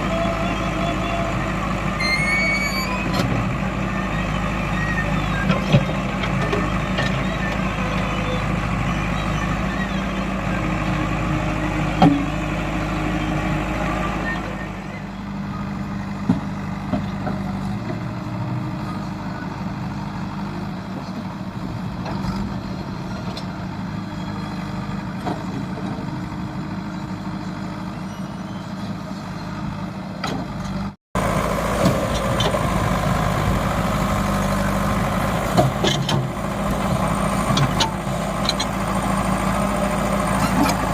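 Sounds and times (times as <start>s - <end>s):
diesel machinery engines running: 0.0s - 40.9s.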